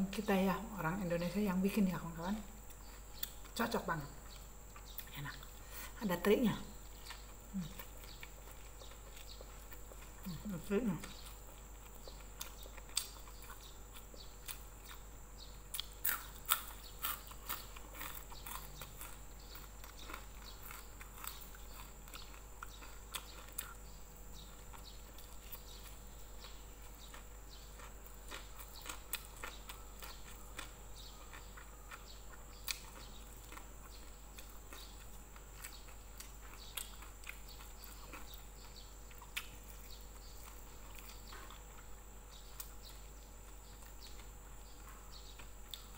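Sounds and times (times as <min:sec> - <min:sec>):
crisp crunching and chewing: 0:02.4 - 0:05.7, 0:06.7 - 0:45.9.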